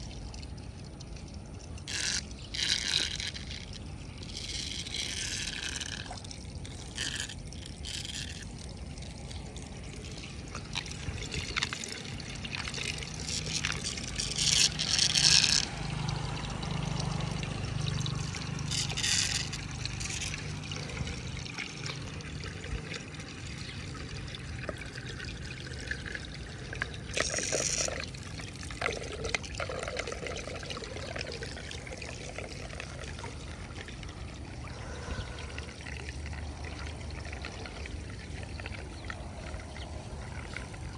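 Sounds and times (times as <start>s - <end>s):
floodwater pouring into drain: 0.0s - 40.9s.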